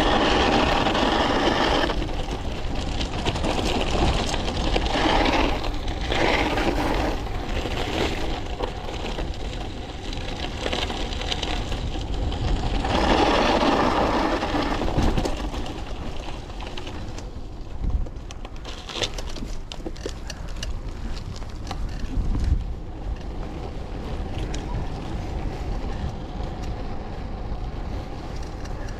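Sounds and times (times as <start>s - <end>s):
wind and tyre noise: 0.0s - 28.9s.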